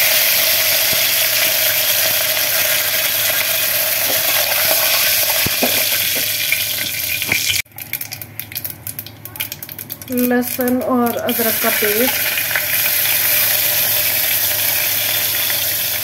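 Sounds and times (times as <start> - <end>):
seeds sizzling in hot oil: 0.0 - 16.0.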